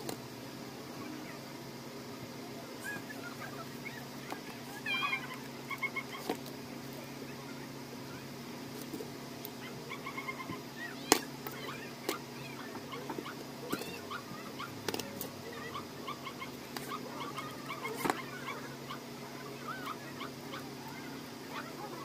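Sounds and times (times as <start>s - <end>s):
steady low hum: 0.0s - 22.0s
small animals chirping: 2.5s - 8.4s, 9.5s - 22.0s.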